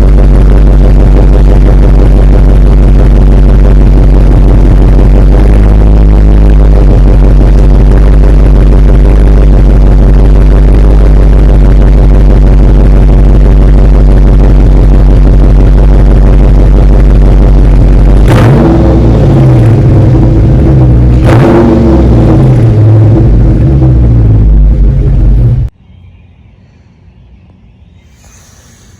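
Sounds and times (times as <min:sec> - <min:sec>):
car engine cold start: 0:00.0 - 0:25.7
loud exhaust burst: 0:00.0 - 0:25.7.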